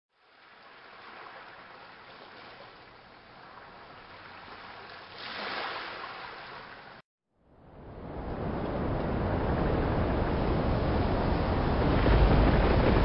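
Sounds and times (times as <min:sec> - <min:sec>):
waves washing: 0:00.2 - 0:07.0, 0:08.0 - 0:13.0.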